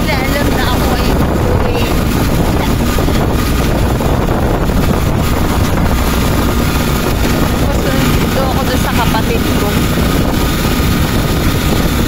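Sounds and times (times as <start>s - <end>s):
motorcycle engine running: 0.0s - 12.0s
road noise: 0.0s - 12.0s
wind on the microphone: 0.0s - 12.0s.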